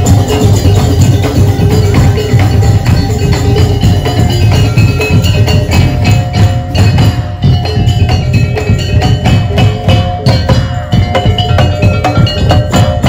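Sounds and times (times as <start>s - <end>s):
heavy low drumbeats: 0.0s - 13.0s
ringing metal tones: 0.0s - 13.0s.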